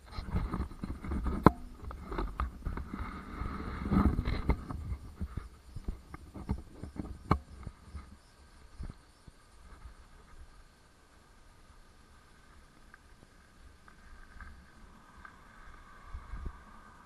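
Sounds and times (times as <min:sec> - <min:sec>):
bike tyres rumbling on gravel: 0:00.0 - 0:09.0, 0:09.6 - 0:17.0.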